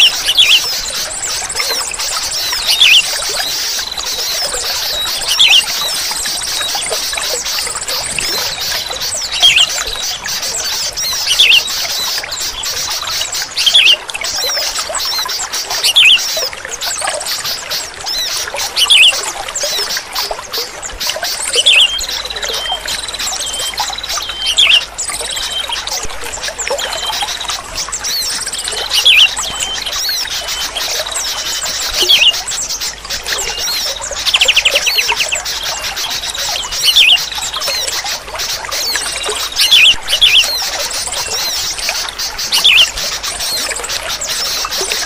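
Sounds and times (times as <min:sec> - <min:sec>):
high-pitched bird chirping: 0:00.0 - 0:16.4, 0:21.4 - 0:26.0, 0:26.8 - 0:45.0
bulbuls singing: 0:00.0 - 0:45.0.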